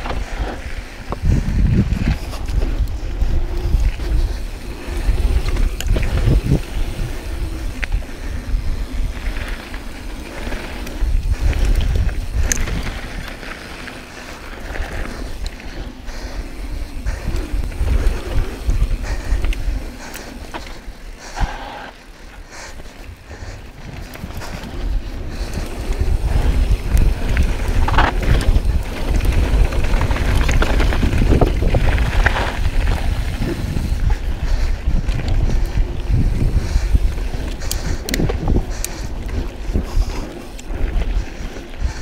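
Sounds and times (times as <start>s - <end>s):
bike clicks and rattles: 0.0s - 42.0s
tyres rolling on dirt: 0.0s - 42.0s
wind buffeting microphone: 0.0s - 42.0s.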